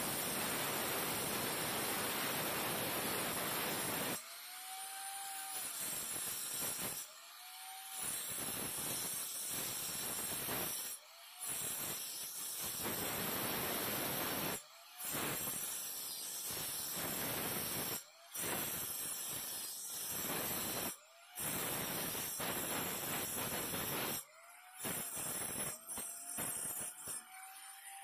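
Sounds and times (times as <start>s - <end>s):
angle grinder cutting brick: 0.0s - 28.0s.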